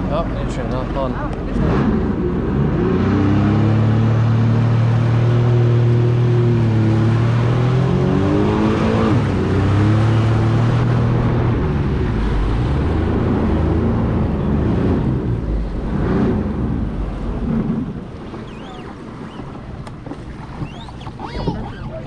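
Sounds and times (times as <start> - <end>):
jet ski engine revving: 0.0 - 22.0.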